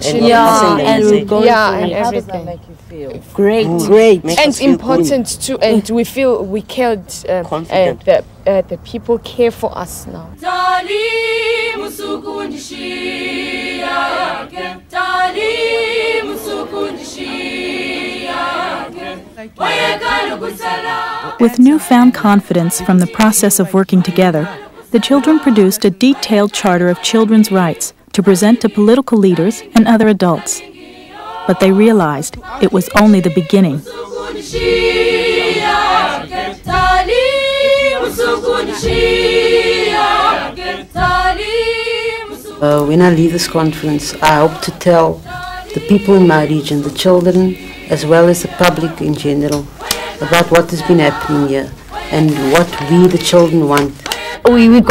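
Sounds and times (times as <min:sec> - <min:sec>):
group singing unaccompanied: 0:00.0 - 0:02.5, 0:03.2 - 0:06.8, 0:10.3 - 0:54.9.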